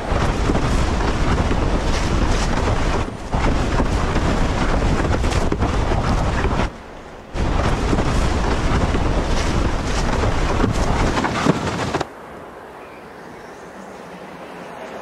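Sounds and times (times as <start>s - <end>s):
wind buffeting a microphone: 0.0s - 12.1s.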